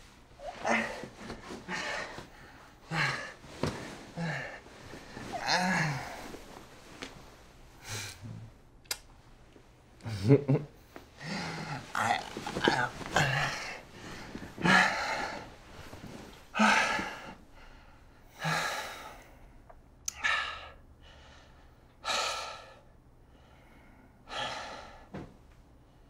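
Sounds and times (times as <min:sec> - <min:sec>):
man breathing heavily: 0:00.4 - 0:06.6, 0:07.8 - 0:08.5, 0:11.1 - 0:26.0.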